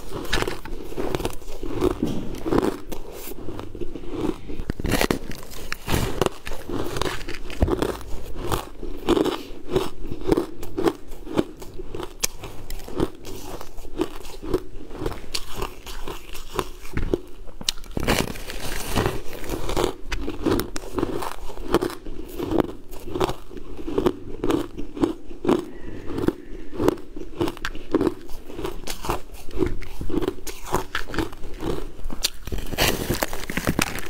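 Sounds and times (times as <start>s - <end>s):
biting frozen ice: 0.0s - 34.0s
crisp crunching chews: 0.0s - 34.0s.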